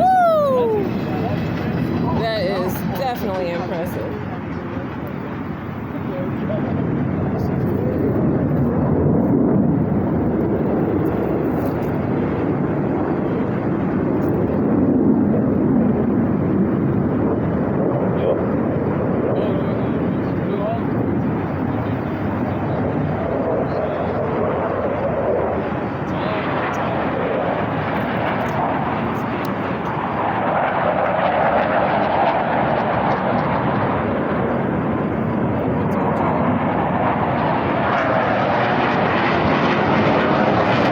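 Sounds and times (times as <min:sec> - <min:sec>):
airplane engine rumble: 0:00.0 - 0:40.9.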